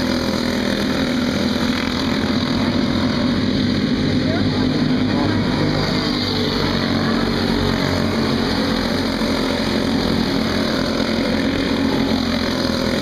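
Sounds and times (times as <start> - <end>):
go-kart engines droning: 0.0 - 13.0.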